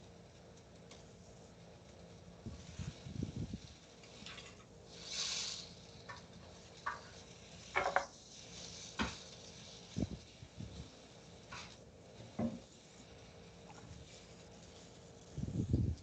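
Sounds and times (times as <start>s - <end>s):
chicken sizzling in oil: 1.8s - 16.0s.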